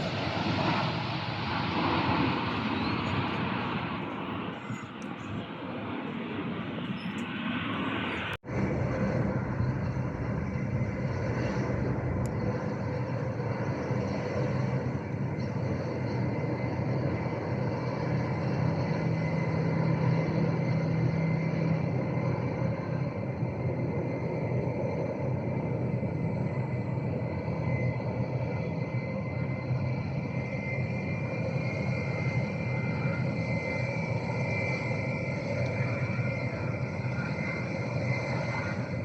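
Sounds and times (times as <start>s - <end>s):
airliner engines running: 0.0s - 39.0s.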